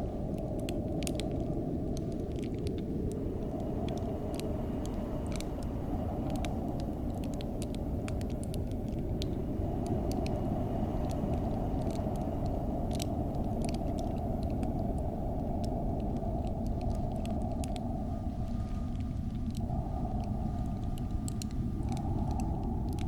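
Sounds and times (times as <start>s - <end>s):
sharp crackling ticks: 0.0s - 23.0s
wind low rumble: 0.0s - 23.0s.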